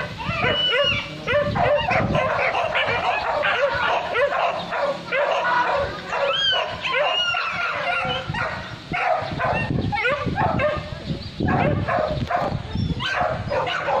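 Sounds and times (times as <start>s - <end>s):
dogs yelping and barking: 0.0s - 14.0s.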